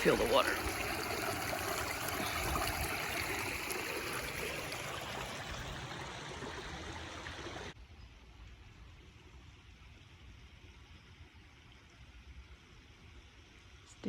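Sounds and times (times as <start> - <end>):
small stream running: 0.0 - 14.0.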